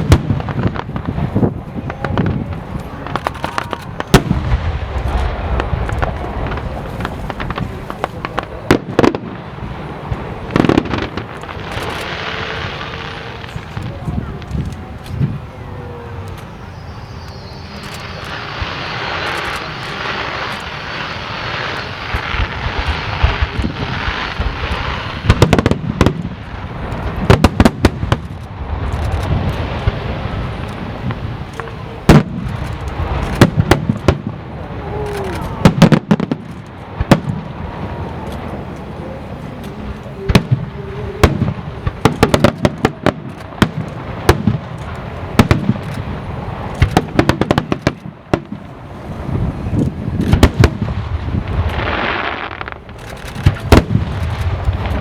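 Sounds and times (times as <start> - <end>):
fireworks crackling and hissing: 0.0 - 55.0.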